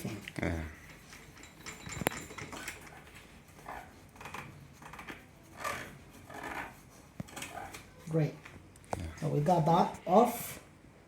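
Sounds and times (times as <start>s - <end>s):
tools and parts handled on bench: 0.0s - 9.0s.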